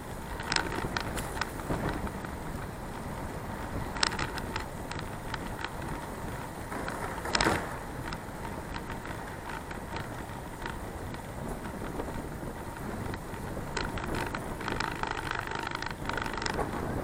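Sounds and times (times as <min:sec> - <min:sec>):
bicycle road noise: 0:00.0 - 0:17.0
wind on microphone: 0:00.0 - 0:17.0
short clicks and creaks: 0:00.3 - 0:02.7, 0:03.6 - 0:17.0.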